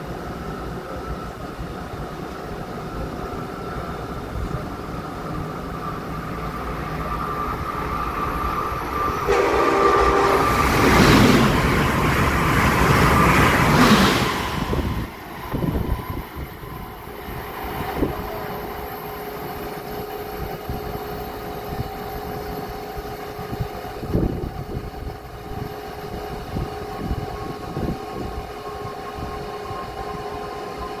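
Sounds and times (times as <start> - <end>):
train rushing by: 0.0 - 31.0.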